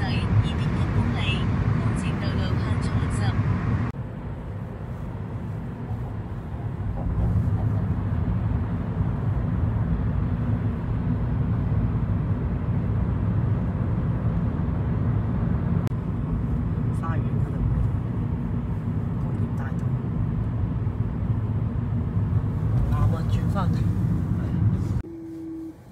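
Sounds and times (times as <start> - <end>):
car road and engine rumble: 0.0 - 25.9.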